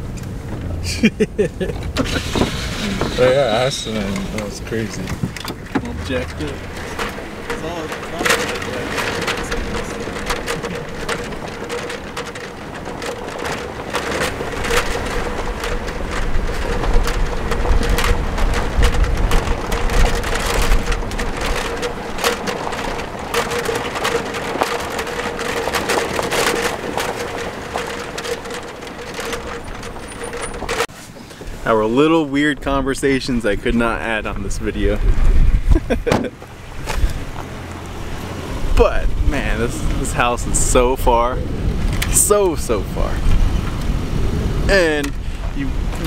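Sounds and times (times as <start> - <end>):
tyres crunching on gravel: 0.0 - 46.0
vehicle body rattling: 0.0 - 46.0
vehicle rumble: 0.0 - 46.0.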